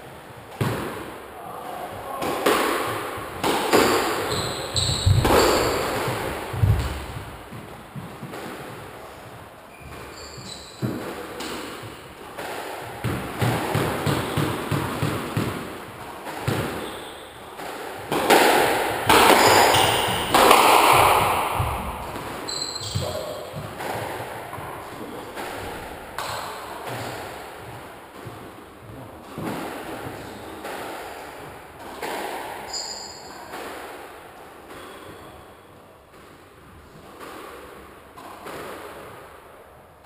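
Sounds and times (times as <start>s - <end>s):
squash ball smacks echoing: 0.5s - 10.0s, 10.8s - 35.0s.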